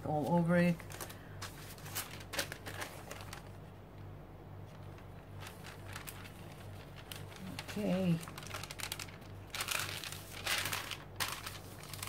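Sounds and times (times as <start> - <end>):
tissue paper rustling: 0.0 - 3.6, 4.6 - 12.0
steady low hum: 0.0 - 12.0.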